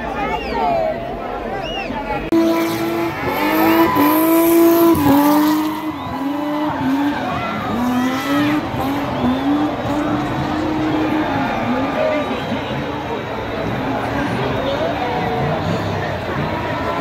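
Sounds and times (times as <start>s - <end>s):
car engine at high revs: 2.3s - 17.0s.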